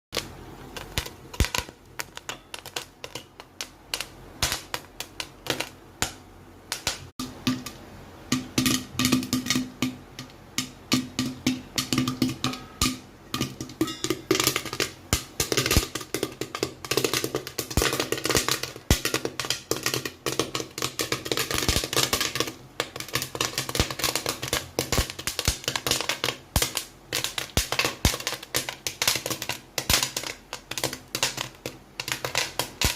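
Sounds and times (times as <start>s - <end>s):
corn kernels popping in a pan: 0.1s - 32.9s.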